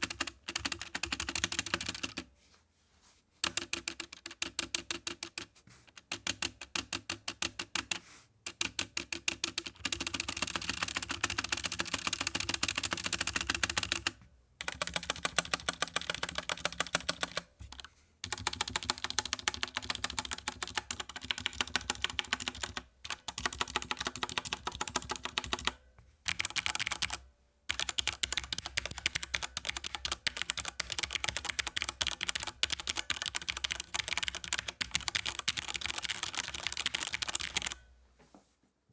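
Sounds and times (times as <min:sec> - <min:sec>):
fast typing on mechanical keyboard: 0:00.0 - 0:02.2, 0:03.4 - 0:37.8.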